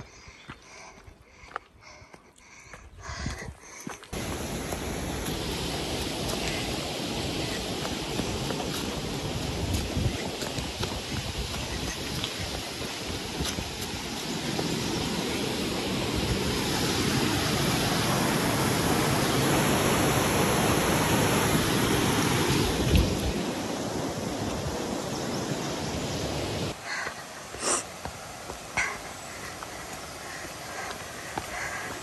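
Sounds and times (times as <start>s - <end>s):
stream rushing over boulders: 4.1s - 32.0s.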